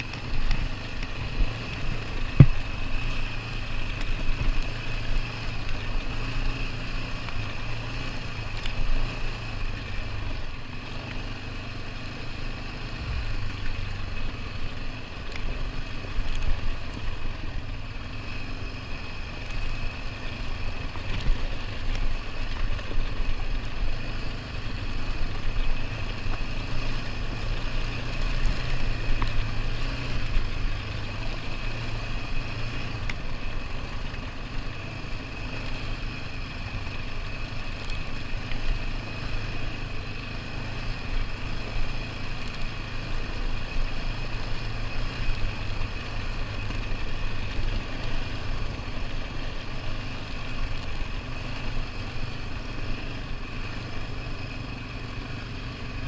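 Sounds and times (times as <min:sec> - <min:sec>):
atv engine droning: 0:00.0 - 0:56.0
rattle and road noise: 0:00.0 - 0:56.0.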